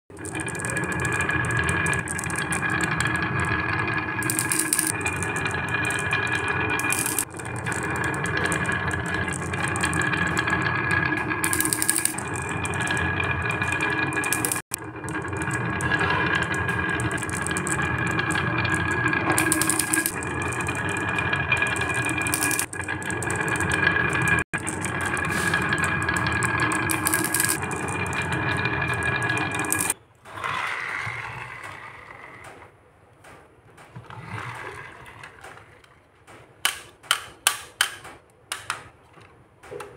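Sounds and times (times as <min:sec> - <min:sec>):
glass marbles rolling on wood: 0:00.1 - 0:32.2.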